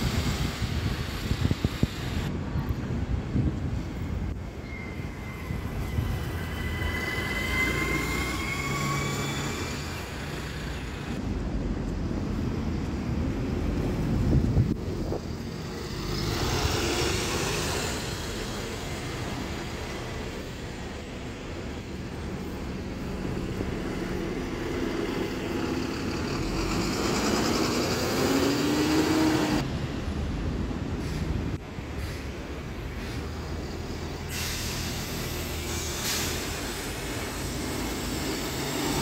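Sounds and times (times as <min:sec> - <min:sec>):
vehicles passing on street: 0:00.0 - 0:39.0.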